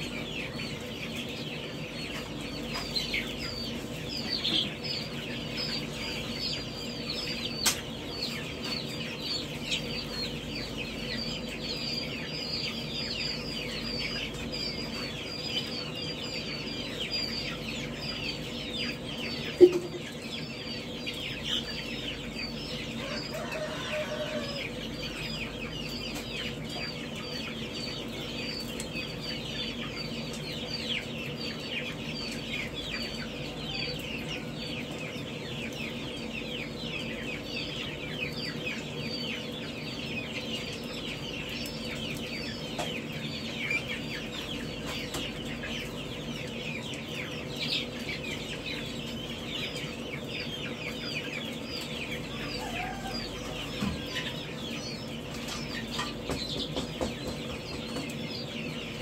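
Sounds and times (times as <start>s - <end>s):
baby birds peeping: 0.0s - 59.0s.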